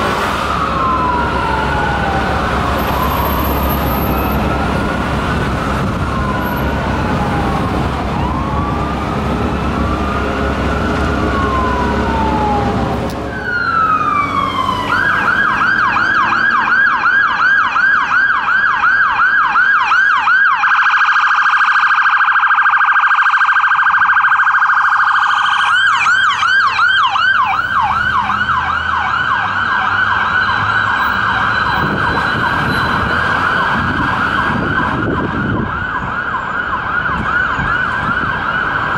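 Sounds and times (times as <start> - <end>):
traffic noise: 0.0 - 38.9
electronic siren: 0.2 - 38.9.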